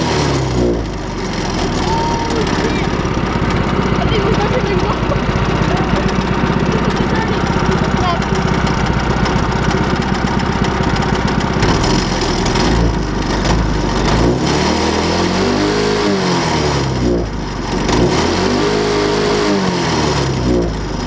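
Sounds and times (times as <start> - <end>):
go-kart engine revving: 0.0 - 21.0.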